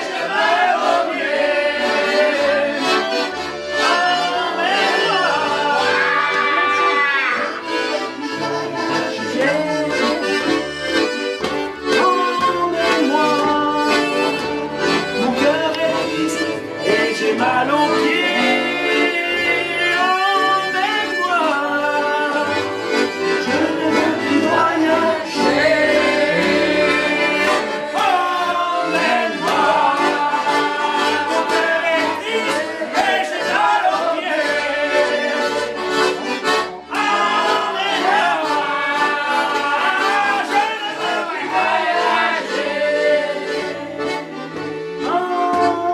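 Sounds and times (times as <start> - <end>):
accordion playing folk tune: 0.0 - 45.9.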